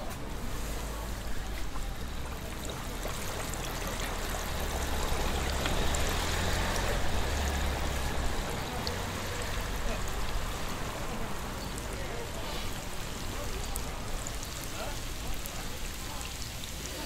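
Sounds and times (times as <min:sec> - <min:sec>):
doughnuts frying in hot oil: 0:00.0 - 0:17.0.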